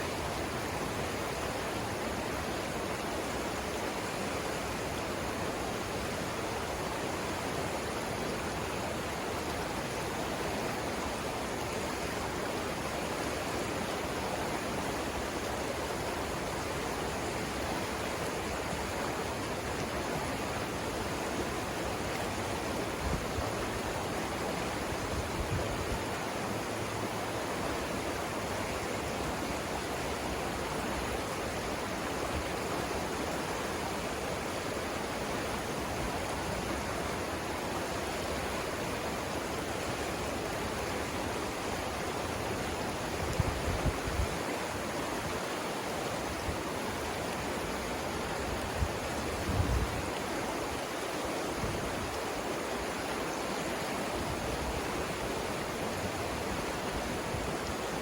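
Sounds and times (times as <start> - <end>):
water rushing over rapids: 0.0 - 58.0.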